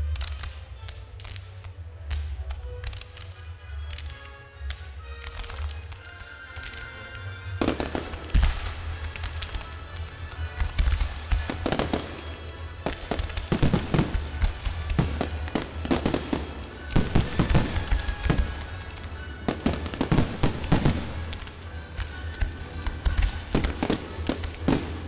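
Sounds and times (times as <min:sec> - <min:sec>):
fireworks bangs and pops: 0:00.0 - 0:25.0.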